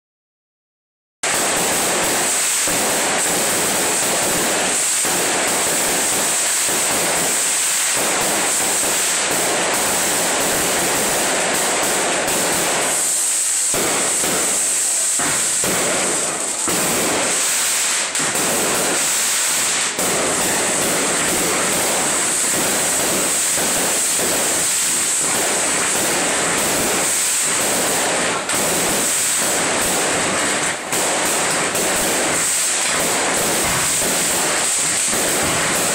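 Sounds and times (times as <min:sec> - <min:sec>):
firework hissing: 0:01.2 - 0:35.9.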